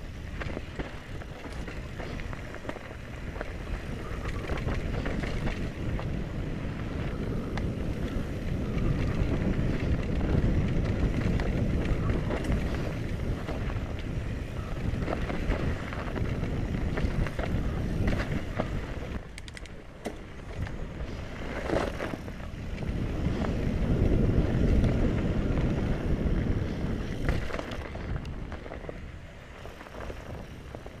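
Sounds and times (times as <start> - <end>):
bike rattling and knocking: 0.0 - 31.0
wind buffeting microphone: 0.0 - 31.0.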